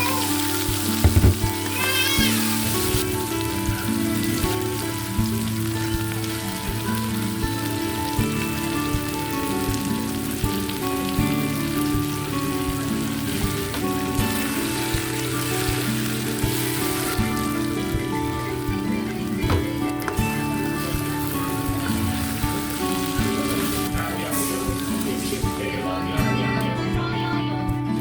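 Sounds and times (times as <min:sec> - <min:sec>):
food sizzling in hot oil: 0:00.0 - 0:27.0
background music with held notes: 0:00.0 - 0:28.0.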